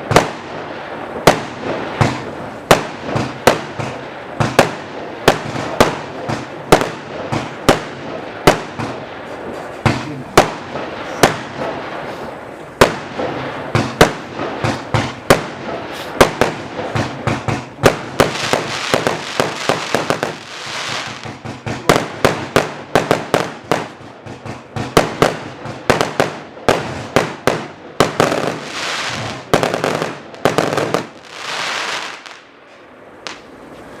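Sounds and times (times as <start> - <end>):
firework hiss: 0.0 - 32.4
firework cake bangs: 1.2 - 9.1, 9.8 - 12.0, 12.8 - 32.4.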